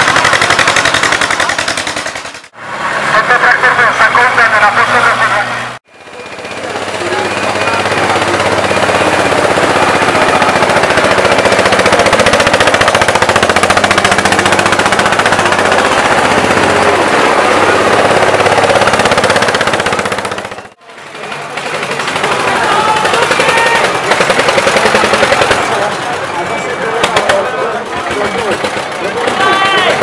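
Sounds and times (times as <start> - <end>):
tractor engine exhaust popping: 0.0 - 2.5, 6.1 - 30.0.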